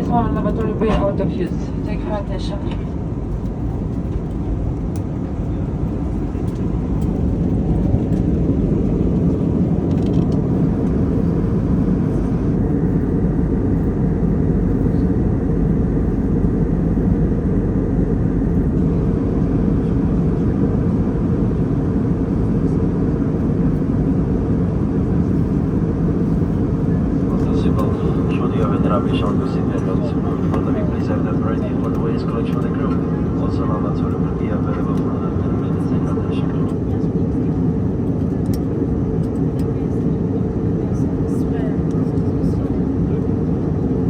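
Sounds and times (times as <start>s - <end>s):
airplane cabin engine roar: 0.0s - 44.0s.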